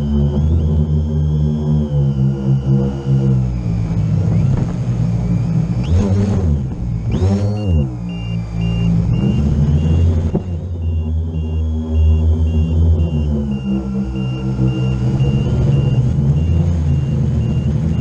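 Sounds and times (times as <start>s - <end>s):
drone motors whirring: 0.0s - 18.0s.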